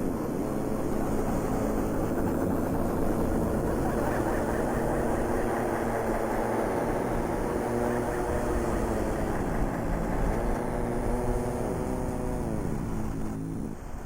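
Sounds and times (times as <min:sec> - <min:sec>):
mechanical engine drone: 0:00.0 - 0:14.0.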